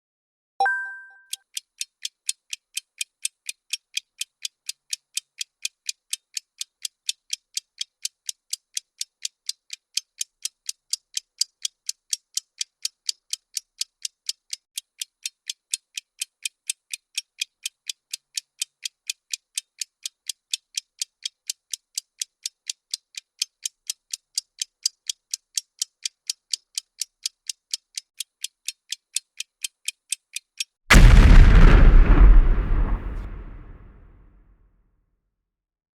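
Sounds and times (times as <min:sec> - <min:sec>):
fast high-pitched clock ticks: 0:01.3 - 0:31.3.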